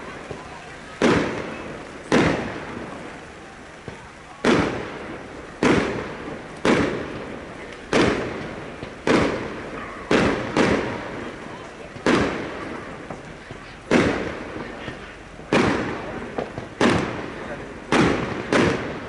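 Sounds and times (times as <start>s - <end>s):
fireworks bursting with sharp bangs: 0.0s - 19.0s.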